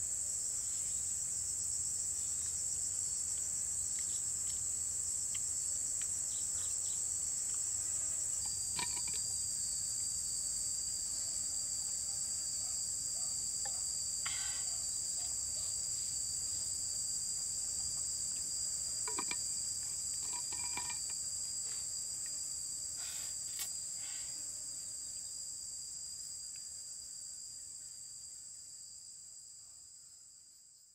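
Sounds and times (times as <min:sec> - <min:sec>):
high-pitched insect chorus: 0:00.0 - 0:30.9
lower insect tone: 0:00.0 - 0:30.9.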